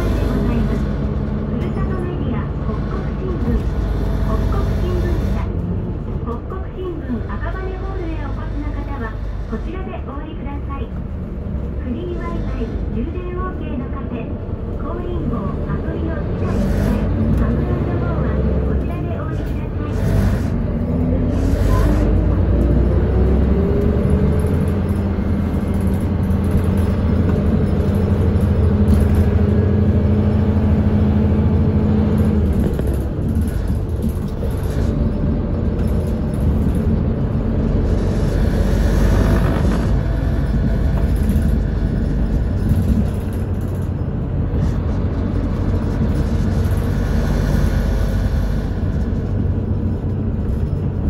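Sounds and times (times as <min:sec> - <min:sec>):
bus cabin noise: 0:00.0 - 0:51.0
bus diesel engine: 0:00.0 - 0:51.0.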